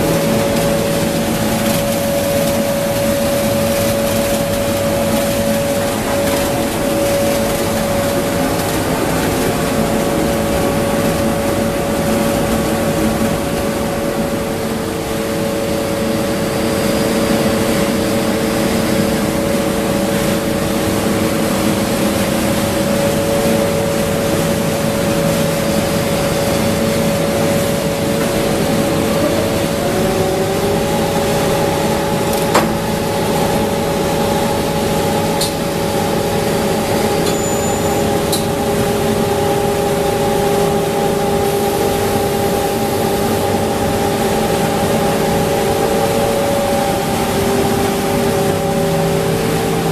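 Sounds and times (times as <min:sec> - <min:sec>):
machine humming with steady tones: 0:00.0 - 0:49.9.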